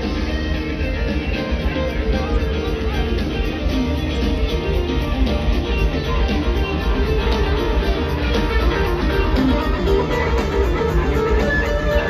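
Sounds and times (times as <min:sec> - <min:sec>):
electric guitar: 0:00.0 - 0:12.0
live rock band: 0:00.0 - 0:12.0.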